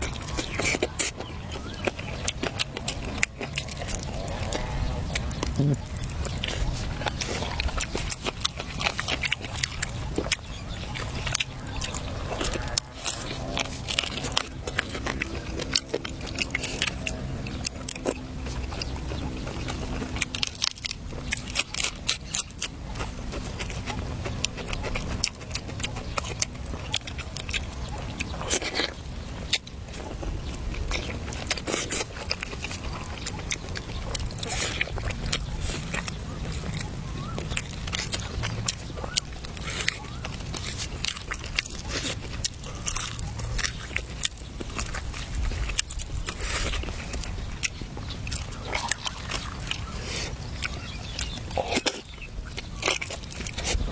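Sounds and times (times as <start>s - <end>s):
person chewing and biting: 0.0s - 53.9s.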